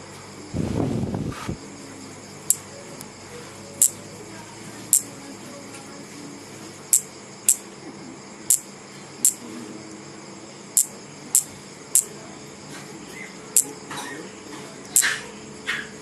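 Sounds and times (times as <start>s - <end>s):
insect high-pitched buzzes: 0.0s - 16.0s.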